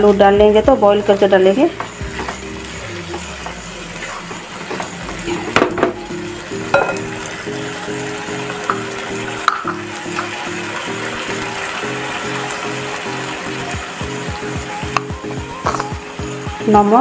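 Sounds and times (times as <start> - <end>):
curry sizzling in a pan: 0.0 - 17.0
soft background music: 0.0 - 17.0.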